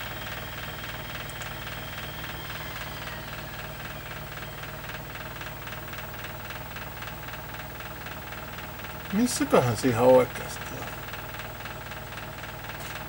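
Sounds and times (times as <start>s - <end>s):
machinery humming and pulsing: 0.0s - 13.0s.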